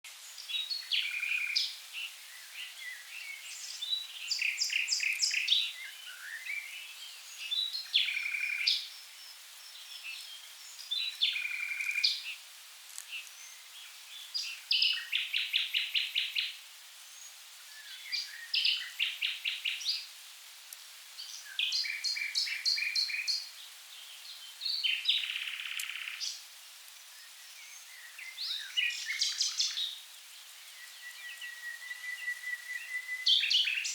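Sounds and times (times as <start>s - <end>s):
nightingale singing: 0.2s - 12.4s, 13.0s - 20.1s, 21.2s - 33.9s.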